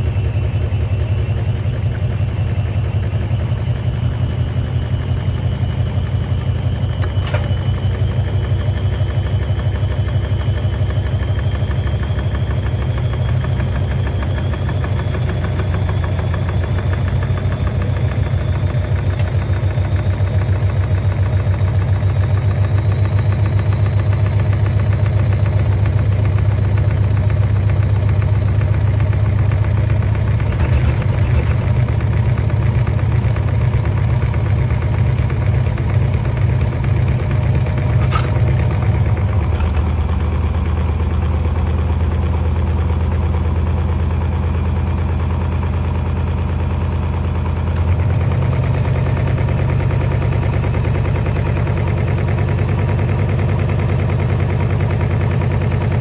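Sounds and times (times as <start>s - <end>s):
washing machine motor whine: 0.0s - 56.0s.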